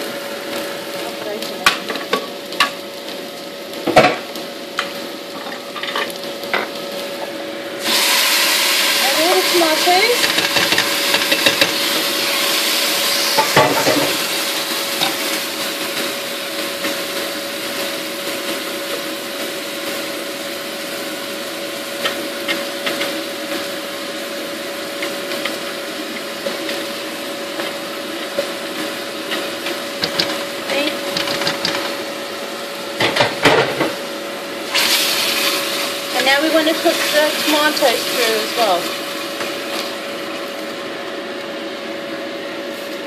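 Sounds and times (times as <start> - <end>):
tomatoes sizzling in hot oil: 0.0 - 43.0.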